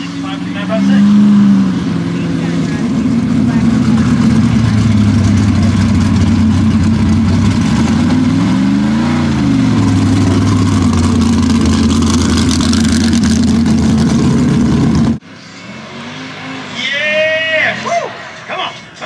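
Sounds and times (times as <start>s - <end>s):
truck engine running at high revs: 0.0s - 16.9s.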